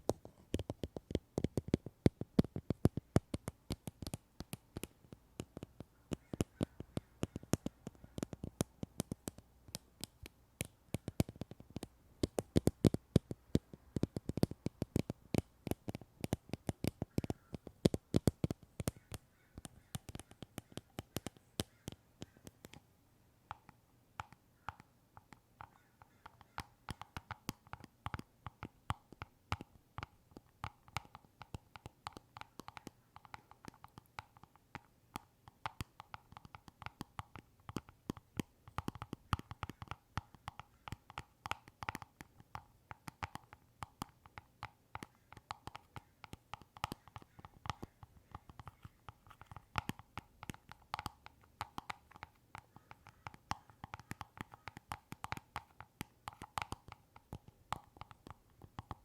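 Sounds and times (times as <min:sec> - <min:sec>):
quick clicks and taps: 0:00.0 - 0:22.9, 0:23.5 - 0:59.0.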